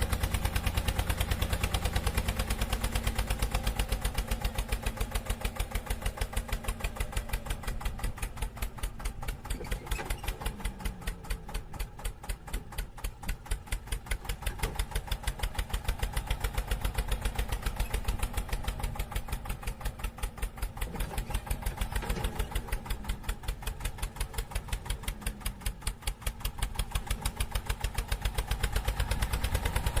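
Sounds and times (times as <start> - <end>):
tractor engine chugging: 0.0 - 30.0.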